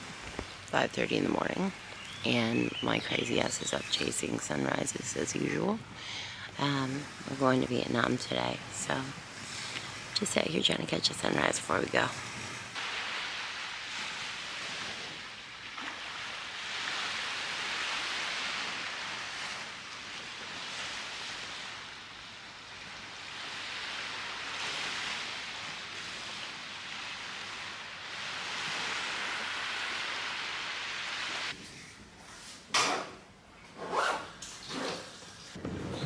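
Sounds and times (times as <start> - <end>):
small waves washing onto beach: 0.0 - 31.6.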